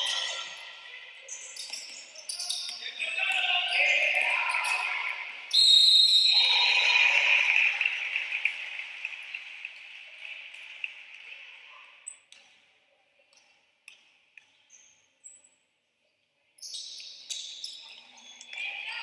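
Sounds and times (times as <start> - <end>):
sports hall noise: 0.0 - 19.0.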